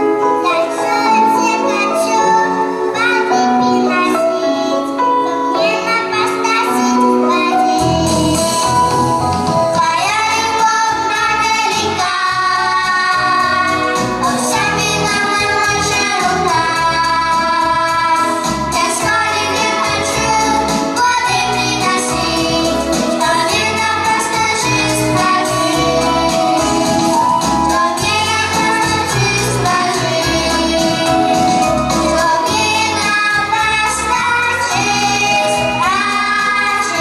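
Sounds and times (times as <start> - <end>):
instrumental accompaniment: 0.0 - 37.0
children and woman singing: 0.5 - 37.0.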